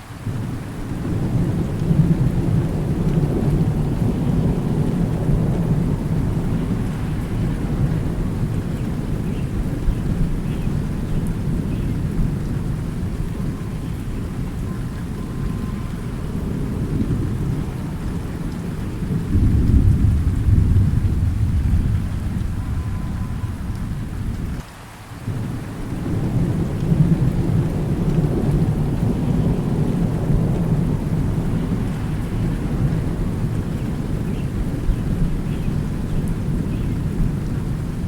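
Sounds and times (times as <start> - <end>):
steady rain: 0.0 - 38.0
rolling thunder: 0.2 - 24.6, 25.2 - 38.0.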